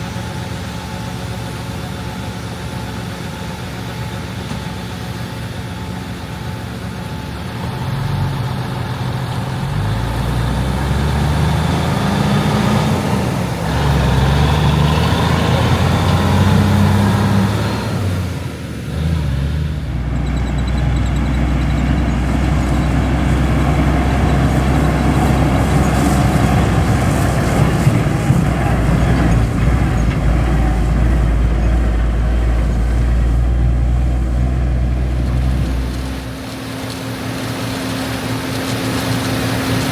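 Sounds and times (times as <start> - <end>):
combine diesel engine under load: 0.0 - 39.9.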